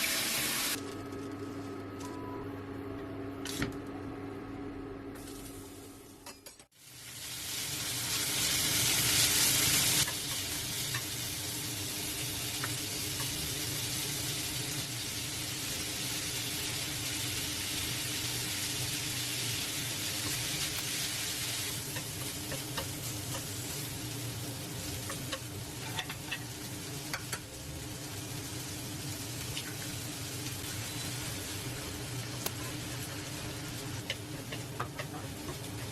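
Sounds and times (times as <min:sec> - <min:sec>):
food sizzling in a pan: 0:00.0 - 0:00.8, 0:05.2 - 0:35.9.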